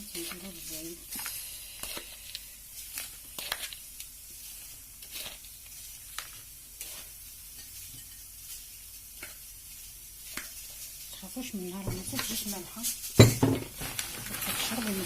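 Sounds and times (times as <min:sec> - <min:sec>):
crisp rustle of tossed peppers: 0:00.0 - 0:15.0.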